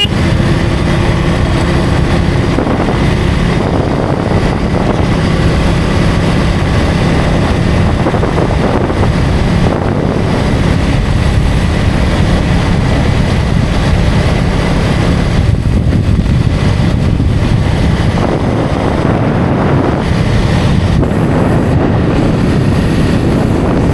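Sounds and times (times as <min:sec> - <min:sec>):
motorcycle engine running: 0:00.0 - 0:23.9
wind on microphone: 0:00.0 - 0:23.9.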